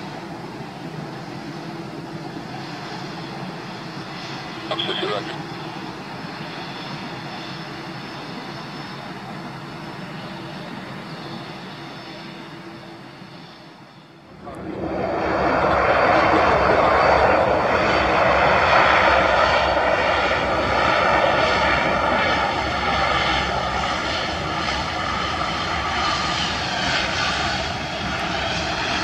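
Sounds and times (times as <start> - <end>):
aircraft engines whining: 0.0 - 29.0.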